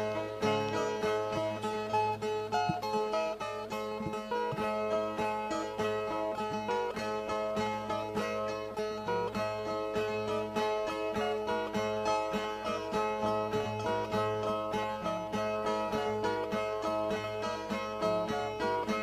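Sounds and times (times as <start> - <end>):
plucked string instruments: 0.0 - 19.0.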